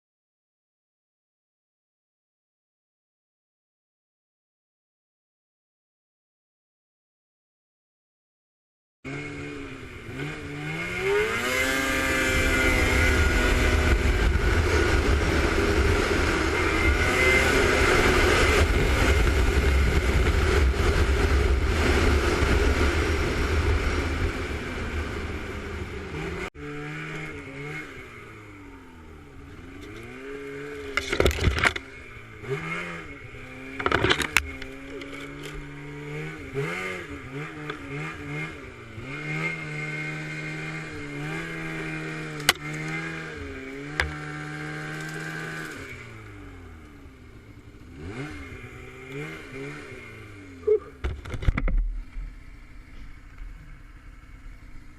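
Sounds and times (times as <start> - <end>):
off-road vehicle engine revving: 9.1 - 54.9.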